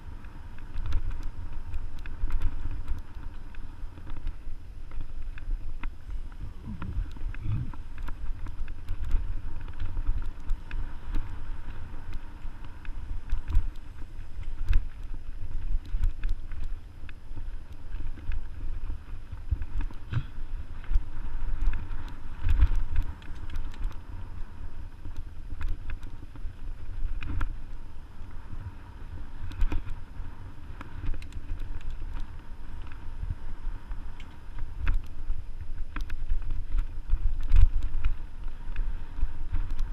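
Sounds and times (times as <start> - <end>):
bike knocking and rattling: 0.0 - 39.9
wind on microphone: 0.0 - 39.9.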